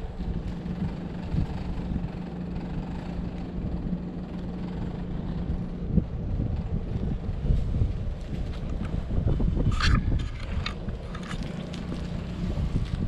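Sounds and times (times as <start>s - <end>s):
low motor hum: 0.0s - 13.0s
wind rumbling on microphone: 0.0s - 13.0s.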